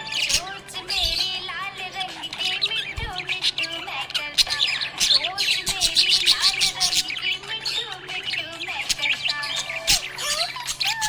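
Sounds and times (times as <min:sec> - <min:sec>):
parrots chattering and squawking: 0:00.0 - 0:11.0.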